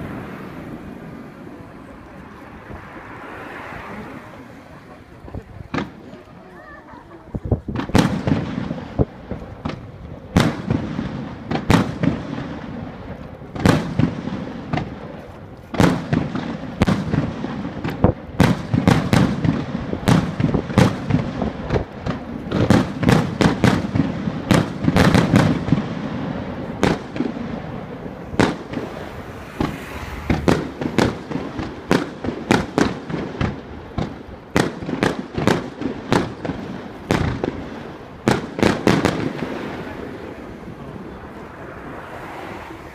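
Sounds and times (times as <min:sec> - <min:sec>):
fireworks bangs: 0:00.0 - 0:42.9.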